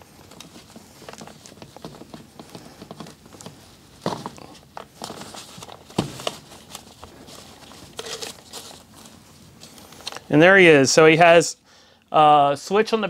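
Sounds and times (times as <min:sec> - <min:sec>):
fabric rustling: 0:00.0 - 0:10.8.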